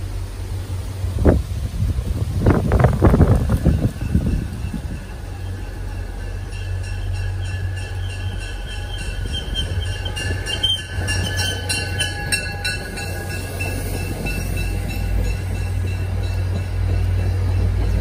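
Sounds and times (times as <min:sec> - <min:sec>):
train low rumble: 0:00.0 - 0:18.0
train wheels squealing: 0:03.5 - 0:18.0.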